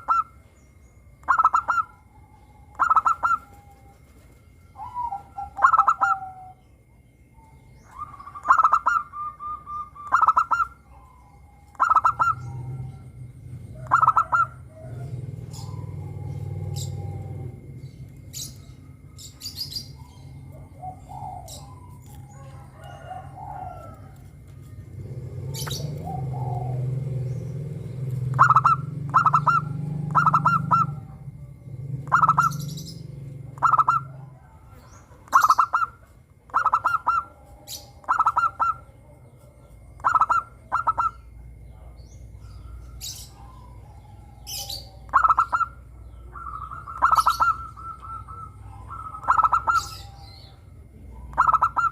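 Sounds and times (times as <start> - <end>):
dove cooing: 0.0 - 0.5, 1.2 - 51.9
low steady hum: 0.0 - 51.9
small birds chirping: 0.0 - 51.9.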